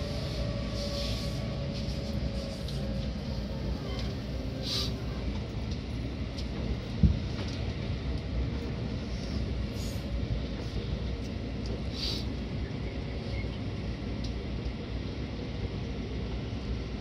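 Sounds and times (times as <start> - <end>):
electric train rumbling from inside: 0.0 - 17.0.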